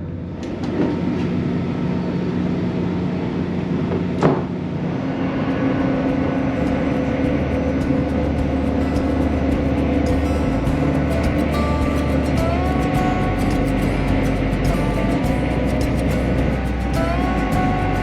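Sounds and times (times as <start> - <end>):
train engine rumble and hum: 0.0 - 18.0.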